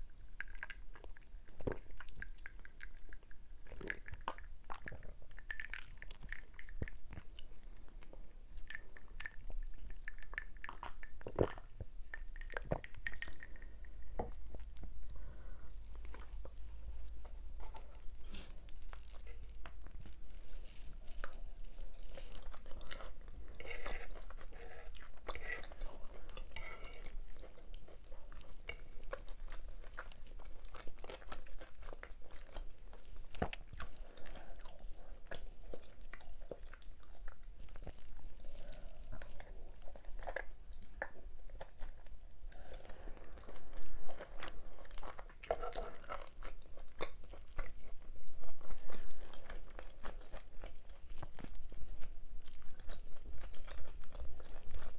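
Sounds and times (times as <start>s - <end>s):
person chewing: 0.0s - 54.9s.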